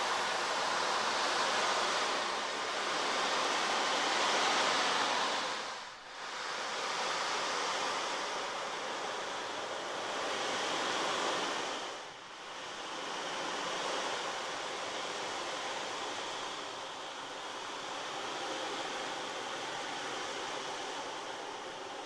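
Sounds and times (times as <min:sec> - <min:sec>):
rushing surf-like noise: 0:00.0 - 0:22.0.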